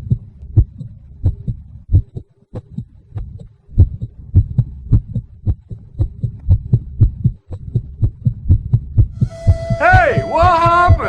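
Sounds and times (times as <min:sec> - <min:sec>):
heartbeat thumps: 0:00.0 - 0:11.0.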